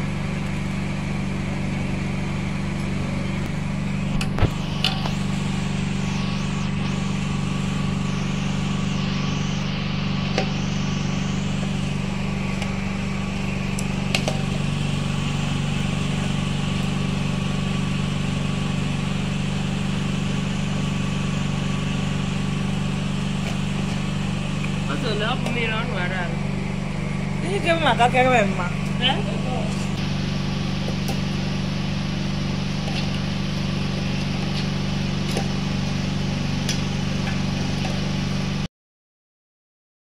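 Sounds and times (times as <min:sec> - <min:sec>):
low mechanical drone: 0:00.0 - 0:38.7.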